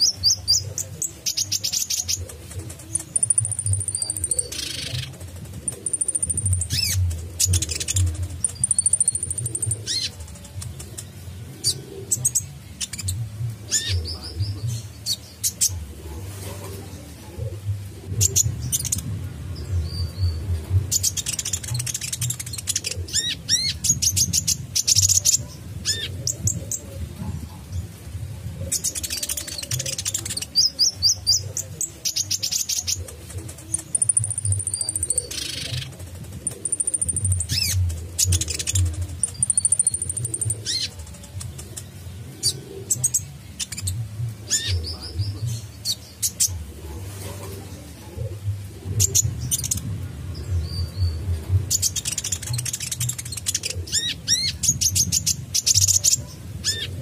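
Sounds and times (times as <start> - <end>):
bird chirps and trills: 0.0 - 26.9, 28.6 - 57.0.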